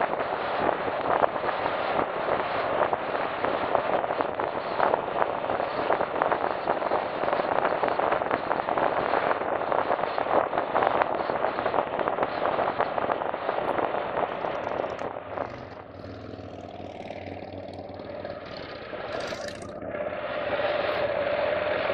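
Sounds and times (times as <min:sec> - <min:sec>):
road noise: 0:00.0 - 0:07.5, 0:11.5 - 0:21.9
wind rushing on microphone: 0:00.0 - 0:21.9.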